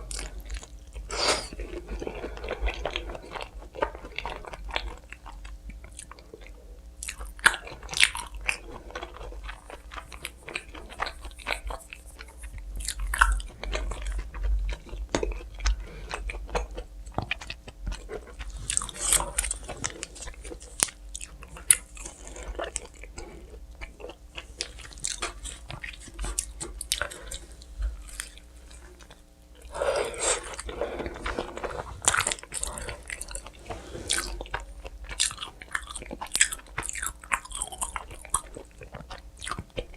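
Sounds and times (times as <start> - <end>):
pizza crunching and chewing: 0.0 - 39.9.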